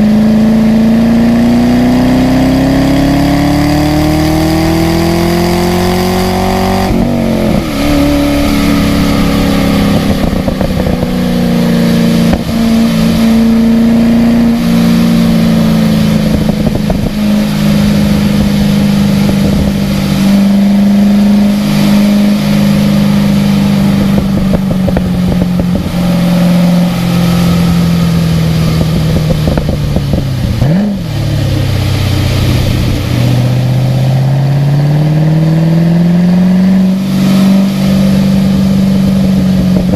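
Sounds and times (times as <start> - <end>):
car engine revving and shifting: 0.0 - 39.9.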